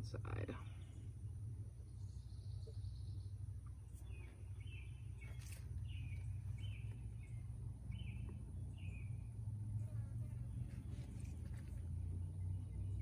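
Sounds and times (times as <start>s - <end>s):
low background rumble: 0.0s - 13.0s
bird chirping: 0.2s - 13.0s.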